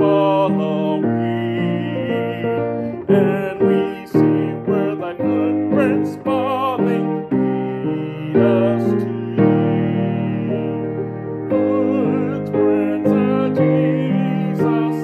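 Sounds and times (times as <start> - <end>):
man singing with vibrato: 0.0 - 15.0
upright piano chords: 0.0 - 15.0.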